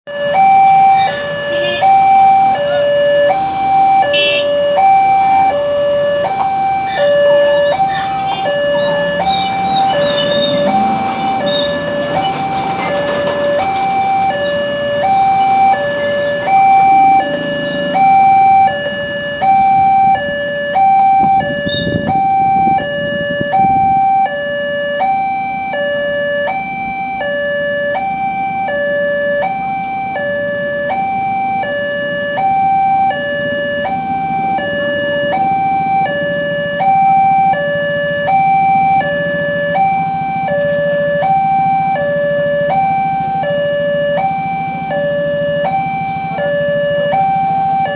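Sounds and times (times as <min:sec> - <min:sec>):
level crossing two-tone alarm: 0:00.1 - 0:47.9.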